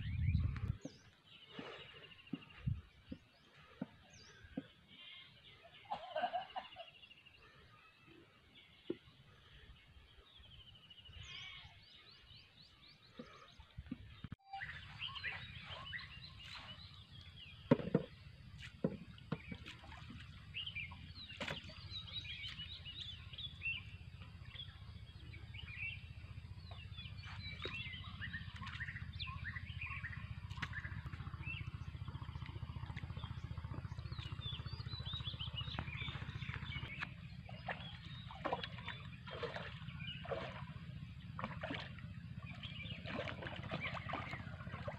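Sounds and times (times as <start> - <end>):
low outdoor rumble: 0.0 - 44.9
small birds chirping and singing: 0.0 - 44.9.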